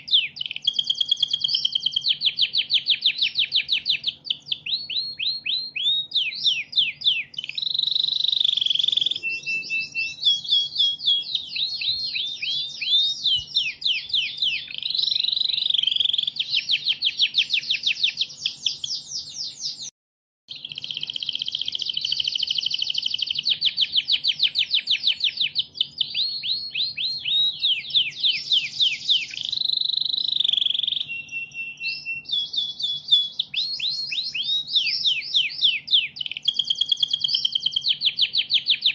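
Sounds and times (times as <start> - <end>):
canary singing trills: 0.0 - 19.9, 20.5 - 38.9.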